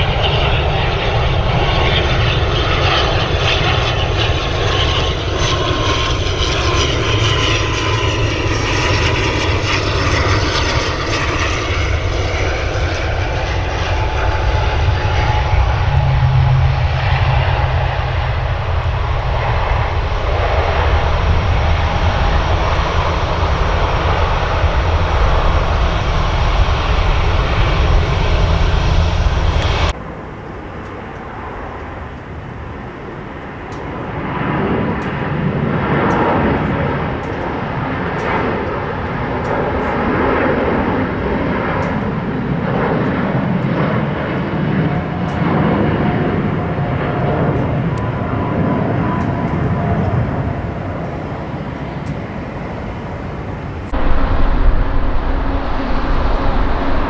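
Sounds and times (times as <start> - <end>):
airliner engine rumble: 0.0 - 57.0
quieter aircraft engine: 0.0 - 57.0.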